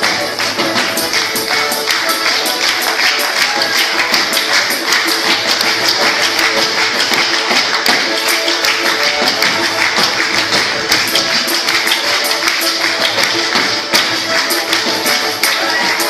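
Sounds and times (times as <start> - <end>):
dancers' heel stamps: 0.0 - 16.0
lively folk dance music: 0.0 - 16.0.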